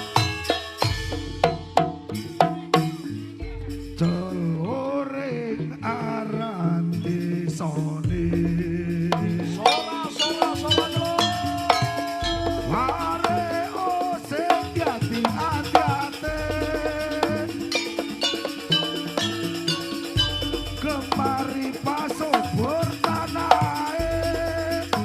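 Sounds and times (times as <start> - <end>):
drums and percussion: 0.0 - 25.0
wavering bending melody: 0.0 - 25.0.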